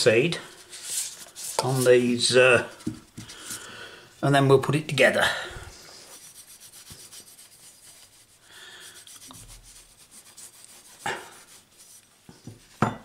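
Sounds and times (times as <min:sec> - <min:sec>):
cloth rubbing on metal: 0:00.0 - 0:03.6, 0:05.7 - 0:12.9.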